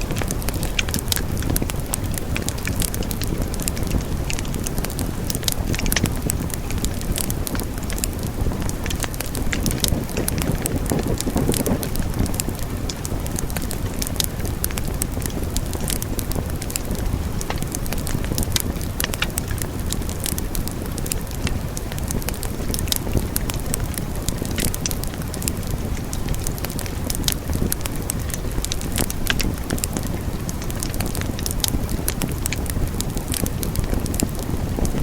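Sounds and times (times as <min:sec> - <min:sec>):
fire crackling and popping: 0:00.0 - 0:35.0
low rumble of flames: 0:00.0 - 0:35.0.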